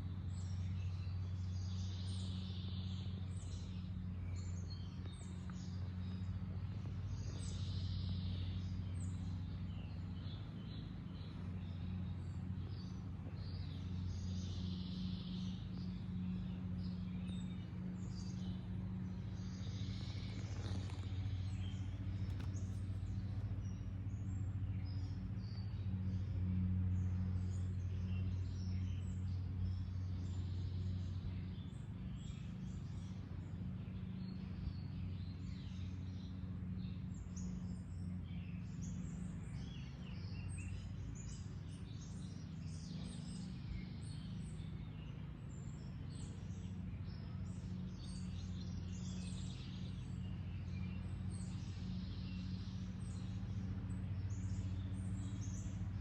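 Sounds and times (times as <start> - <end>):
steady low hum: 0.0 - 56.0
wild birds chirping: 0.0 - 56.0.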